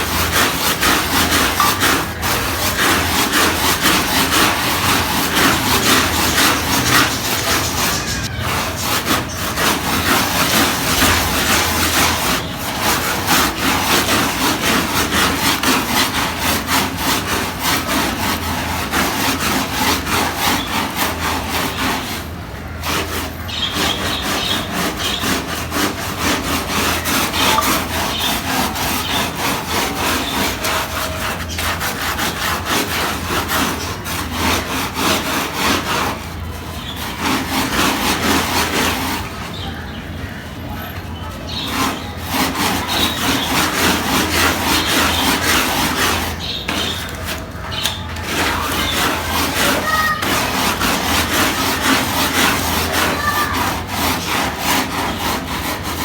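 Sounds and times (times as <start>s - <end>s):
brush scrubbing wet carpet: 0.0s - 39.8s, 41.3s - 56.0s.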